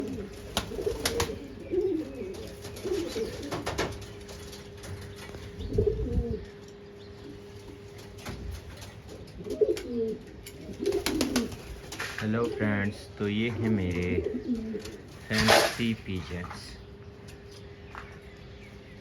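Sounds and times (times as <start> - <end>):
faint steady hum: 0.0 - 19.0
pigeons cooing: 0.0 - 19.0.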